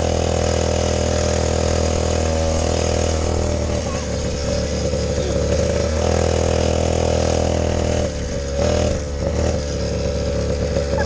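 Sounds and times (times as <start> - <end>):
small quad bike engine running: 0.0 - 11.0.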